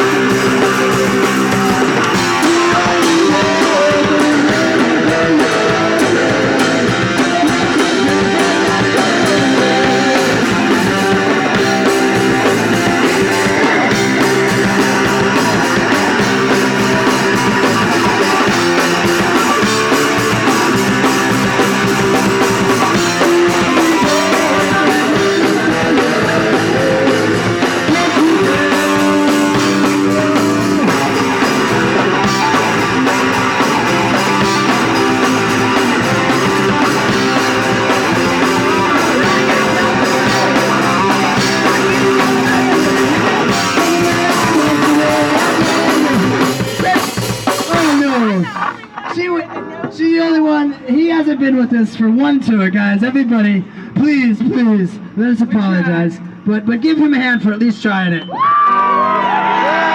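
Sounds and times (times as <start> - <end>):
drum kit: 0.0 - 50.0
punk rock guitar: 0.0 - 50.9, 58.2 - 59.9.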